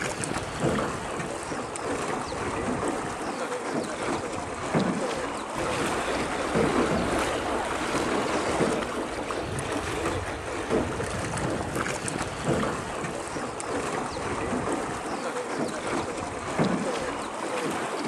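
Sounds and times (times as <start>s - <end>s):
oars splashing: 0.0s - 18.0s
water lapping around a boat: 0.0s - 18.0s.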